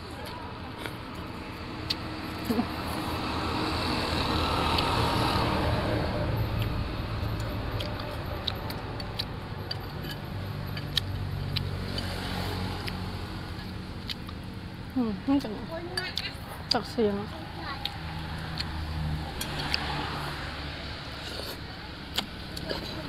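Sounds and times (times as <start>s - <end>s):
motor vehicle passing: 0.0s - 23.0s.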